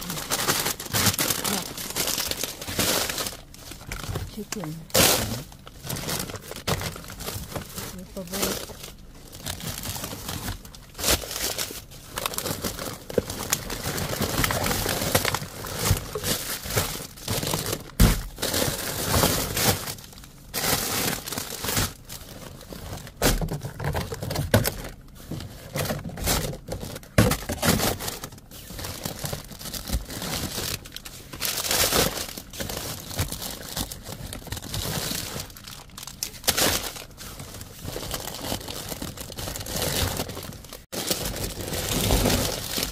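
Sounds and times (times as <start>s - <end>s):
plastic packaging rustling: 0.0s - 42.9s.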